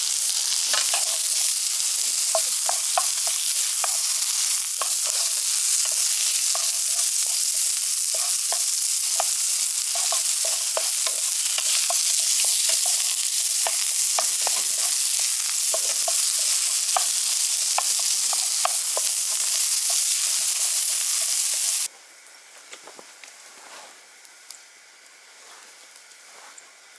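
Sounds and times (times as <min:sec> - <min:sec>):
food sizzling and popping: 0:00.0 - 0:21.9.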